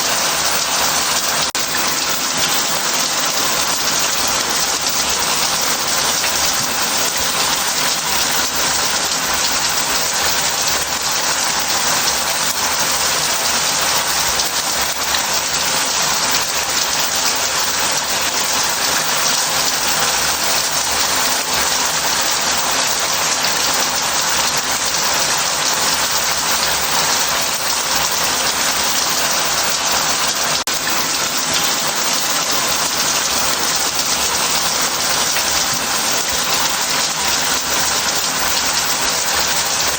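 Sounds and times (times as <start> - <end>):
shower spraying into a bath: 0.0 - 39.9.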